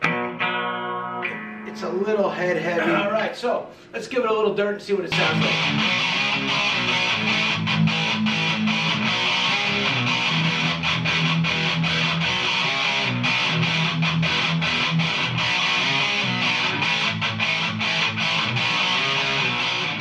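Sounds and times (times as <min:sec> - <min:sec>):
distorted electric guitar riff: 0:00.0 - 0:03.8, 0:05.1 - 0:20.0.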